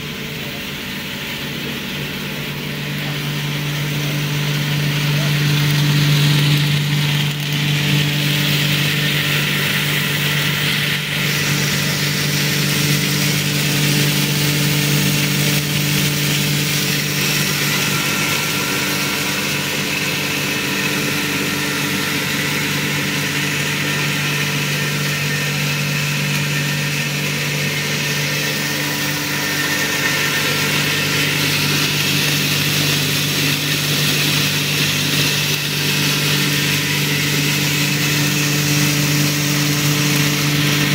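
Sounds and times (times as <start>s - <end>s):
grain mill motor hum: 0.0s - 40.9s
hiss of grain milling: 0.0s - 40.9s.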